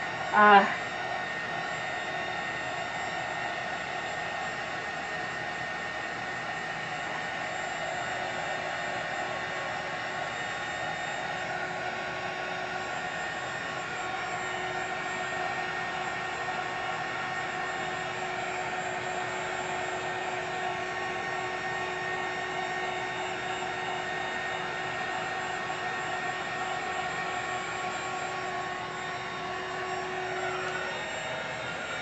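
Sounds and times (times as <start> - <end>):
heat gun blower running: 0.0 - 32.0.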